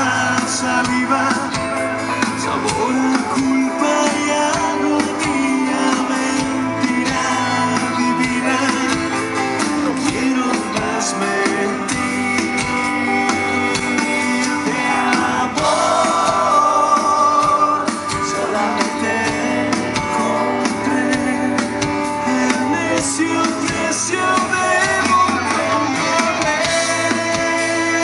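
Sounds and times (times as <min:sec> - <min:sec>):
acoustic guitar: 0:00.0 - 0:28.0
man singing: 0:00.0 - 0:28.0
rock band playing live: 0:00.0 - 0:28.0.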